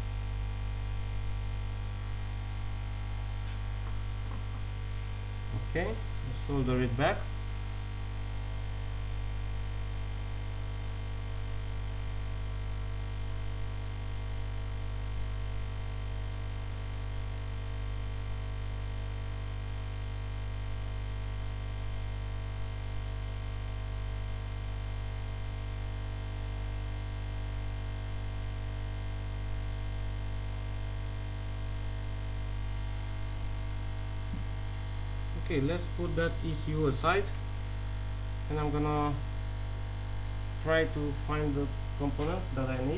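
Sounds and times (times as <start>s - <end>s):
hot air station electrical hum: 0.0s - 42.9s.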